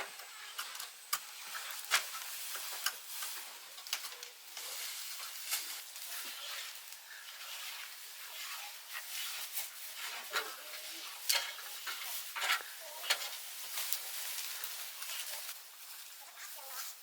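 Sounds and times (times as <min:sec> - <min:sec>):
scraping and stirring strokes: 0:00.0 - 0:17.0
steady hiss: 0:00.0 - 0:17.0.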